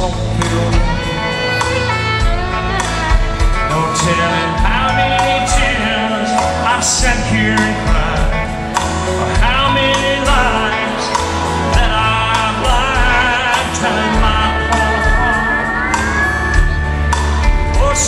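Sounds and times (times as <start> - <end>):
country band playing live: 0.0 - 18.0
lead melody line: 0.0 - 18.0.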